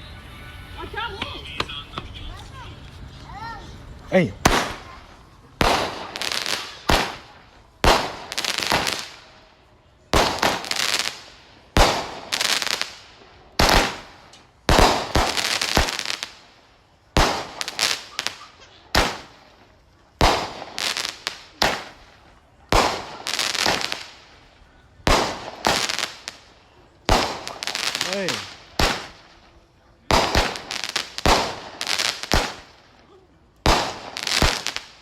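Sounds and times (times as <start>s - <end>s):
firework shots banging and hissing: 4.3s - 9.4s, 10.0s - 35.0s.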